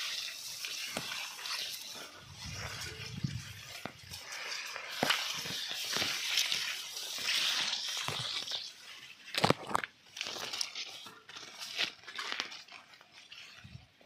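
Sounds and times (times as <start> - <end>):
crop leaves rustling: 0.0 - 14.0.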